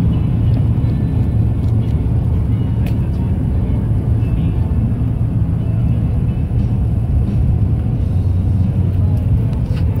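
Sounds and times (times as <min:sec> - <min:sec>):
truck cabin road rumble: 0:00.0 - 0:10.0.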